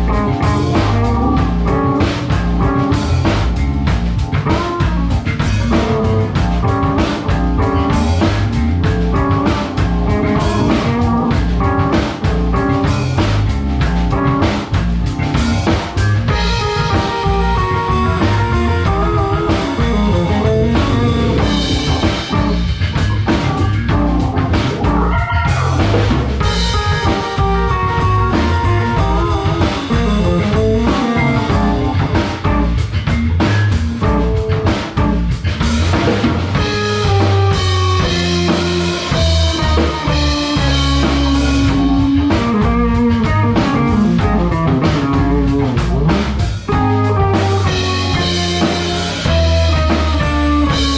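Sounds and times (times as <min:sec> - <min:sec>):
busy drum kit: 0:00.0 - 0:50.9
electric bass: 0:00.0 - 0:50.9
electric guitar: 0:00.0 - 0:50.9.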